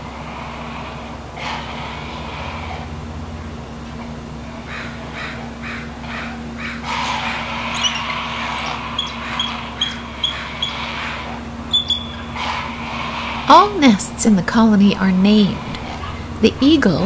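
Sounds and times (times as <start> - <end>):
crows cawing: 0.1 - 3.5, 4.6 - 14.0, 15.4 - 17.0.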